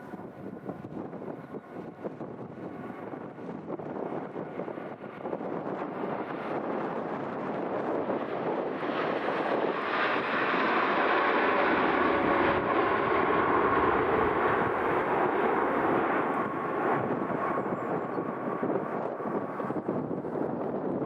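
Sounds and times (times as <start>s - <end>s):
jet engines roaring past: 0.0s - 21.0s.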